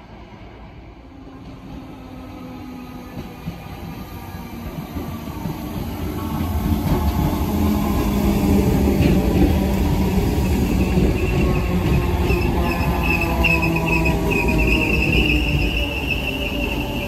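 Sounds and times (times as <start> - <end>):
electric train rumble and motor hum: 1.4 - 17.0.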